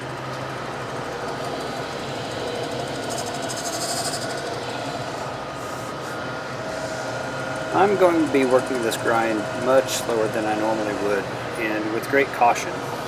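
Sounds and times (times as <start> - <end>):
grinder machine hum: 0.0 - 13.0.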